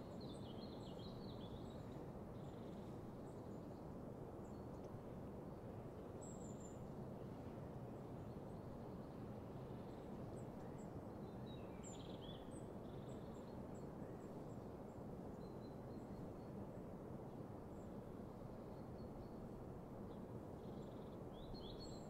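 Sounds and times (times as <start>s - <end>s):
faint birdsong: 0.0s - 16.7s, 17.3s - 22.0s.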